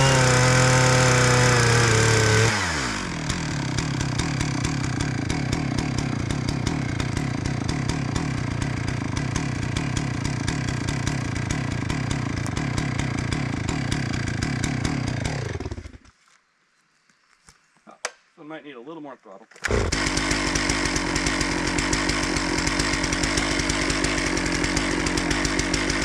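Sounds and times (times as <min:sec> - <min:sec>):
chainsaw idling: 0:00.0 - 0:16.1, 0:19.6 - 0:26.0.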